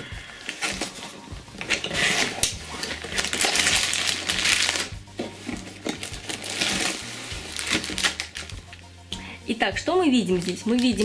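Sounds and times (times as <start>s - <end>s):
plastic bags rustling: 0.0s - 8.7s, 10.1s - 11.0s.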